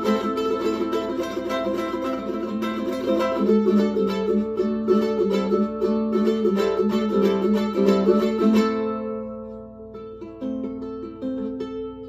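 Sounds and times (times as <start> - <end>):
ukulele plucked notes and chords: 0.0 - 12.0.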